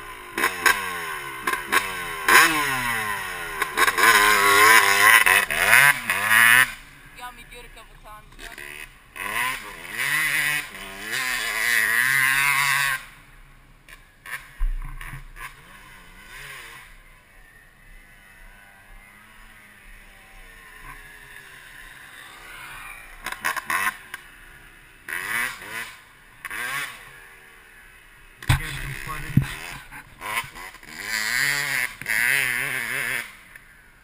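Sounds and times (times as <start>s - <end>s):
dirt bike engine idling: 0.0s - 34.0s
dirt bike engine revving: 0.0s - 34.0s.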